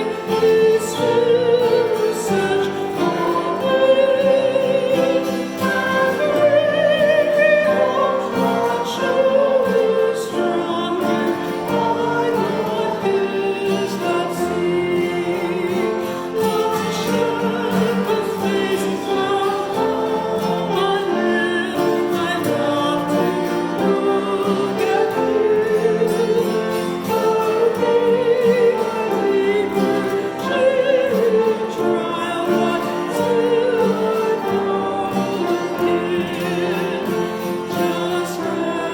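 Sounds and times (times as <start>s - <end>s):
voices singing sacred music: 0.0s - 38.9s.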